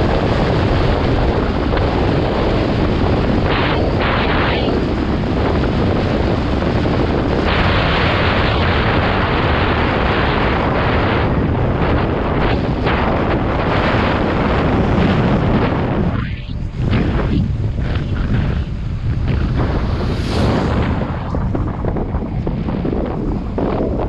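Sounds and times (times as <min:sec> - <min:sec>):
bike tyres rumbling and rattling: 0:00.0 - 0:24.0
wind buffeting microphone: 0:00.0 - 0:24.0.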